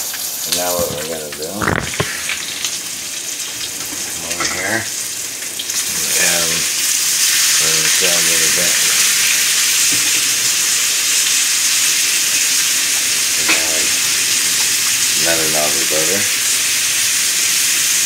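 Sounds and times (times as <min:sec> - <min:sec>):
steak sizzling in a frying pan: 0:00.0 - 0:18.0.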